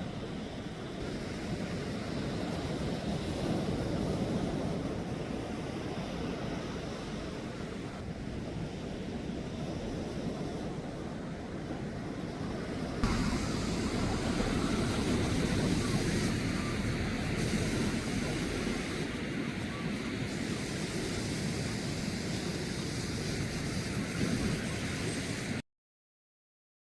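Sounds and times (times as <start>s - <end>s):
sea waves washing on shore: 0.3s - 25.6s
wind buffeting microphone: 1.6s - 24.9s.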